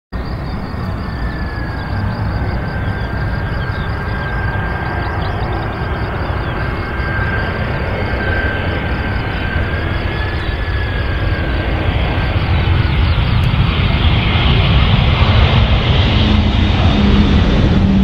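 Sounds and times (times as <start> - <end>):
high jet engine whine: 0.1 - 18.0
jet airliner rumble: 0.1 - 18.0.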